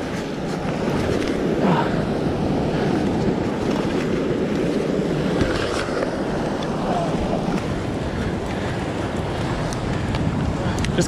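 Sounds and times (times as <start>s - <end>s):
surf washing against rocks: 0.0s - 11.0s
wind on microphone: 0.0s - 11.0s.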